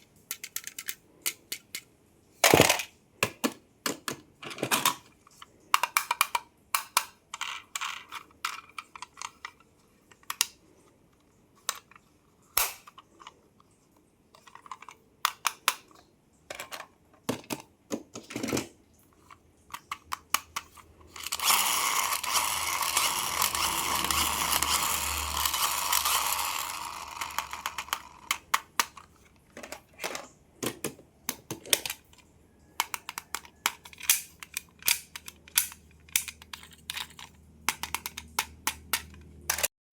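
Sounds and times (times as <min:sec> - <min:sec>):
plastic toys tapping and clicking: 0:00.0 - 0:10.6, 0:14.3 - 0:39.7.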